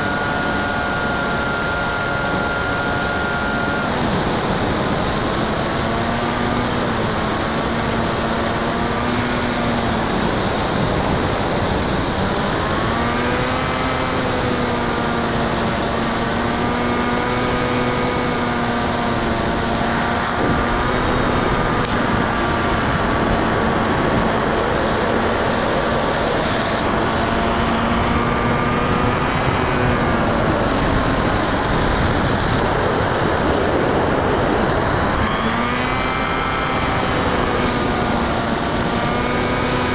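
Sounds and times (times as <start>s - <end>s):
electric motor and propeller whine: 0.0s - 39.9s
wind rush: 0.0s - 39.9s.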